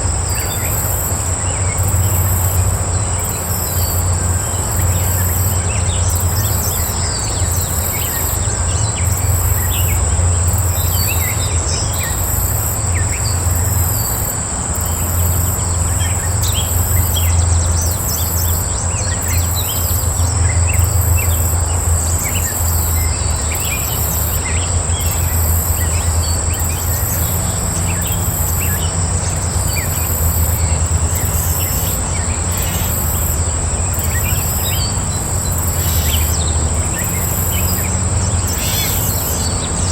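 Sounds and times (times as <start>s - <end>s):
high insect drone: 0.0s - 39.9s
pulsing insect buzz: 0.0s - 39.9s
small birds chirping: 0.0s - 39.9s.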